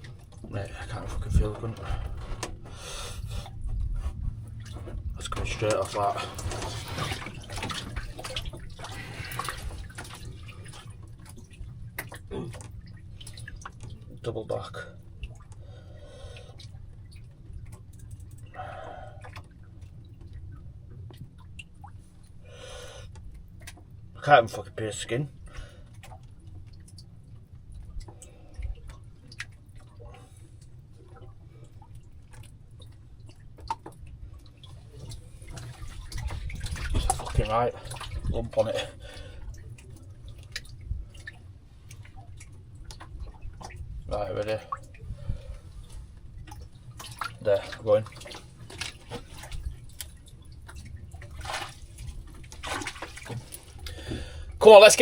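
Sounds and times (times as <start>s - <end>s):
steady low rumble: 0.0s - 55.0s
water dripping and splashing: 0.0s - 55.0s.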